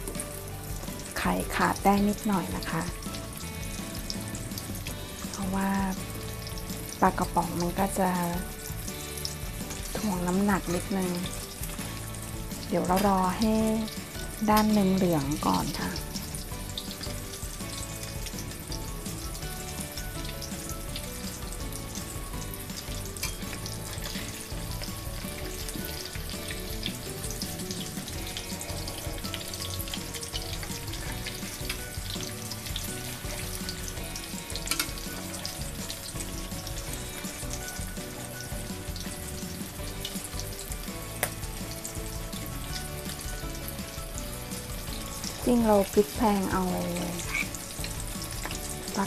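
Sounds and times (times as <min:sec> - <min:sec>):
omelette sizzling in oil: 0:00.0 - 0:49.0.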